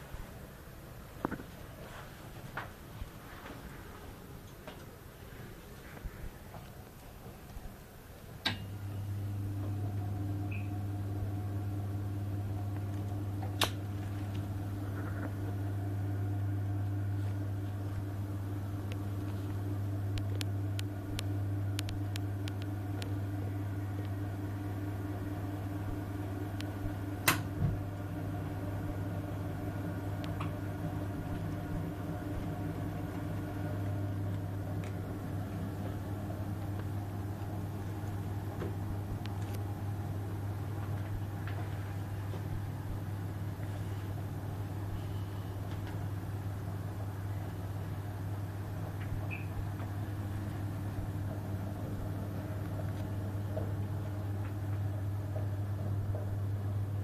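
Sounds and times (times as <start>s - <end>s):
gas boiler humming: 0.0s - 57.0s
boiler clicks: 6.6s - 15.6s, 16.4s - 43.7s, 45.6s - 57.0s.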